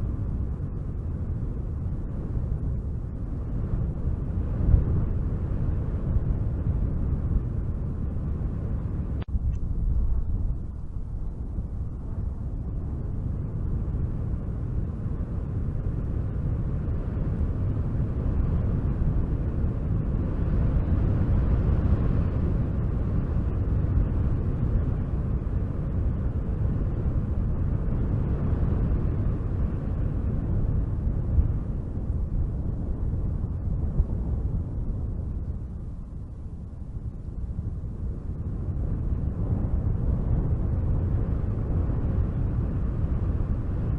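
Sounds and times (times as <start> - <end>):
wind blowing low rumble: 0.0 - 43.9.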